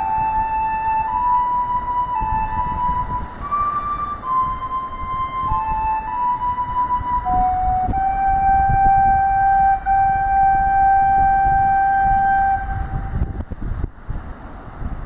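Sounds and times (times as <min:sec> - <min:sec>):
flute-like wind instrument note: 0:00.0 - 0:13.4
wind buffeting microphone: 0:00.0 - 0:15.0.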